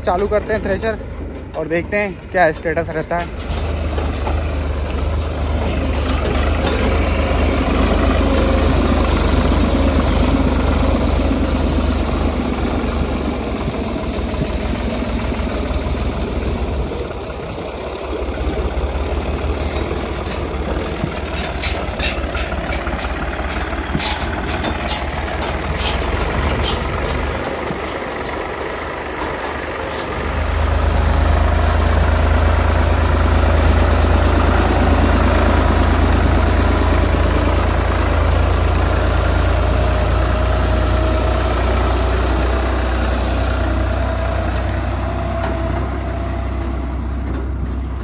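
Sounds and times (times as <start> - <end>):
sharp clanks and rattles: 0.0 - 48.0
tractor diesel engine running: 0.0 - 48.0.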